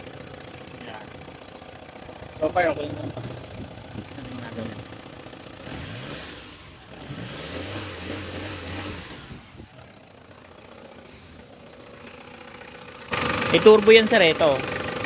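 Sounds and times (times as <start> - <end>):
engine idling: 0.0 - 15.0
diesel engine revving: 1.8 - 15.0.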